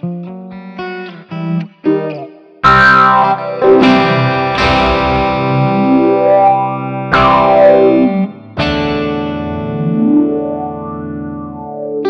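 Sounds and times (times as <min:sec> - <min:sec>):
electric guitar chords ringing: 0:00.0 - 0:12.0.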